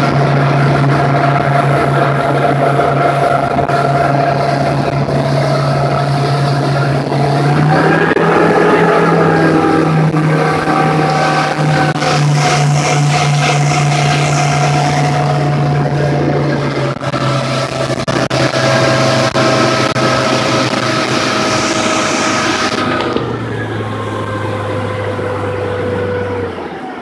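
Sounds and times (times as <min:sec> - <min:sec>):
motorboat engine running: 0:00.0 - 0:27.0
water rushing along hull: 0:00.0 - 0:27.0.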